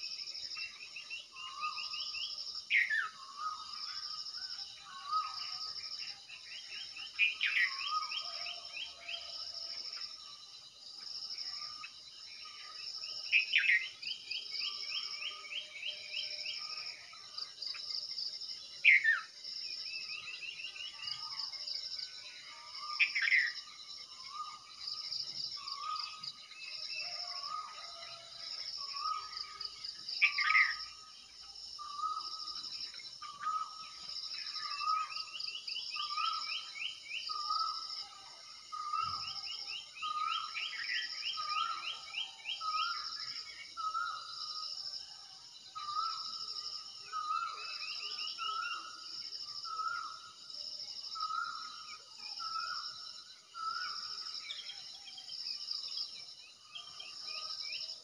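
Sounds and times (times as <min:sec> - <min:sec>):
high insect chorus: 0:00.0 - 0:58.0.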